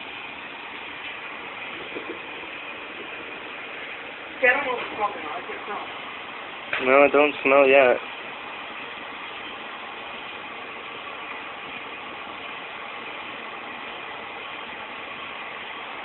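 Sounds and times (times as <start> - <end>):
steady hiss and hum: 0.0 - 16.0.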